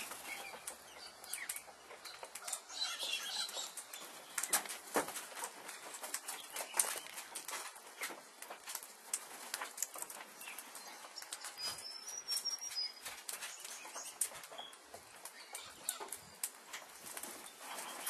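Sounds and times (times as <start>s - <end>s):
light crackles and rustles: 0.0s - 18.0s.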